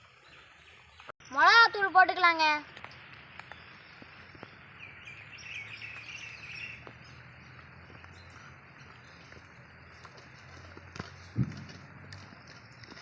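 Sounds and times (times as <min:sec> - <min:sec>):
birds chirping faintly: 0:00.0 - 0:11.5.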